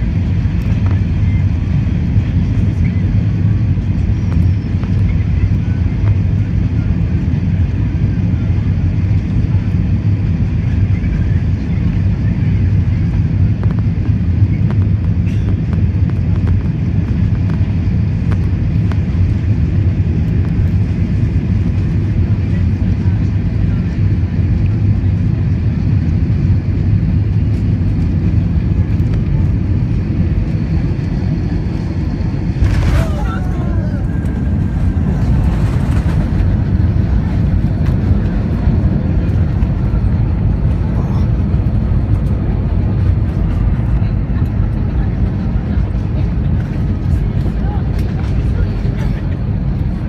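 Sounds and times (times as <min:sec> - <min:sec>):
airliner cabin drone: 0:00.0 - 0:50.0.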